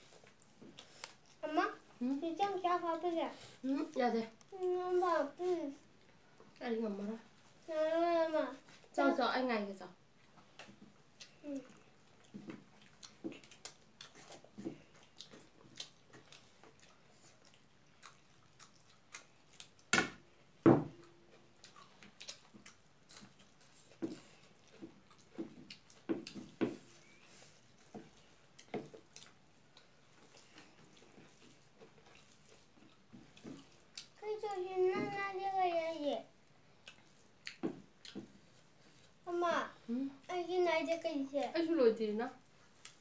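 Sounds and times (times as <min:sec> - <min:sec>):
people chewing with wet smacks: 0:00.0 - 0:07.7, 0:10.1 - 0:34.7, 0:36.2 - 0:43.0.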